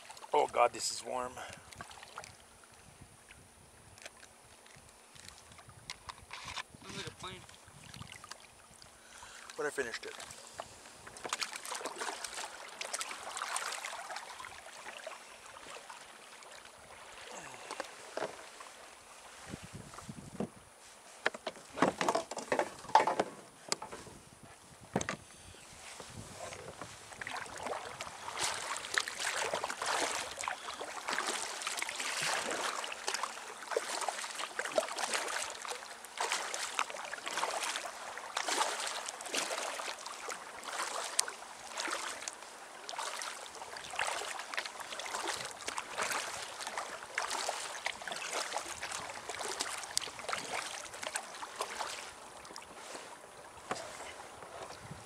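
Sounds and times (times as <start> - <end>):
water splashing around kayak: 0.0 - 55.0.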